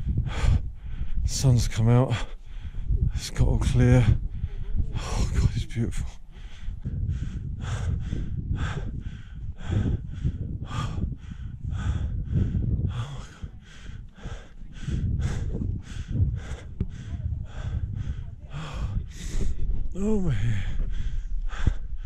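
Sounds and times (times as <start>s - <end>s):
low rumble: 2.1s - 22.0s
rapid heavy breathing: 4.1s - 22.0s.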